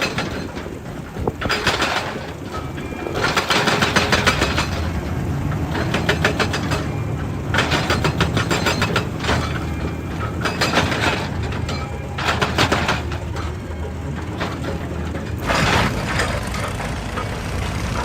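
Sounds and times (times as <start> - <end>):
excavator engine running: 0.0 - 18.0
rapid clattering: 0.0 - 18.0.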